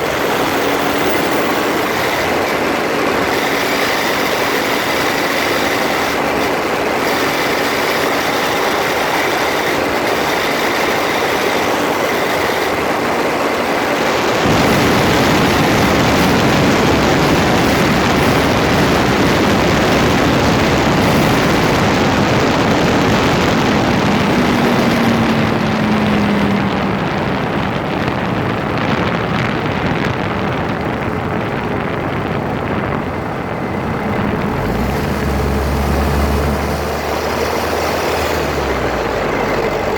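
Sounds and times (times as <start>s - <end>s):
car drivetrain grinding: 0.0s - 39.9s.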